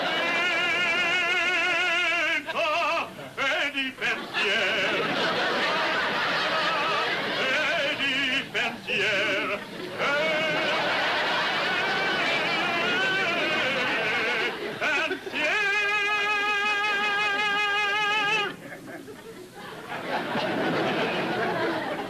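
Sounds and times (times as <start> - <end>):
operatic tenor singing: 0.0 - 18.6.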